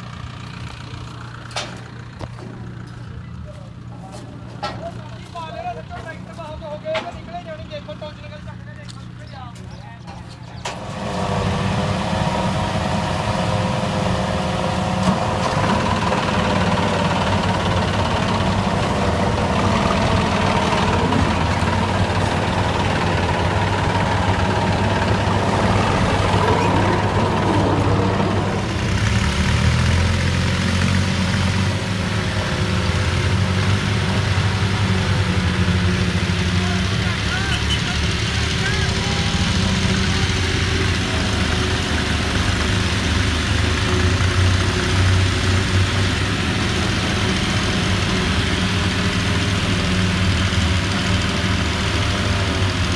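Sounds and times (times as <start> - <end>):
other tractors running: 0.0 - 52.9
tractor diesel engine running: 0.0 - 52.9.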